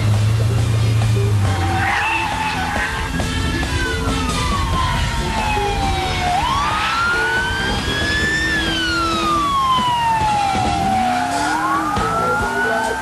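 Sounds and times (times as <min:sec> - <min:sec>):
car engine revving: 0:00.0 - 0:13.0
wail siren rising and falling: 0:01.4 - 0:13.0.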